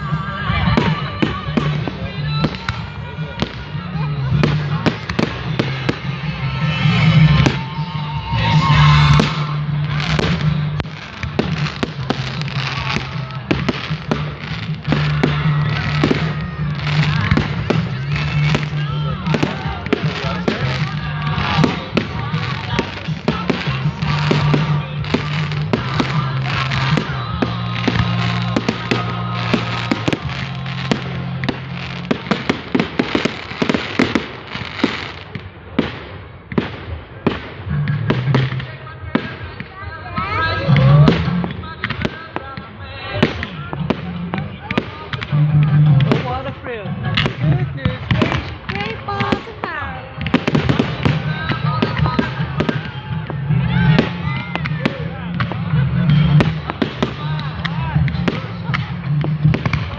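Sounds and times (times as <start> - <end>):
fireworks crackle: 0.0 - 59.9
fireworks sharp bangs: 0.0 - 59.9.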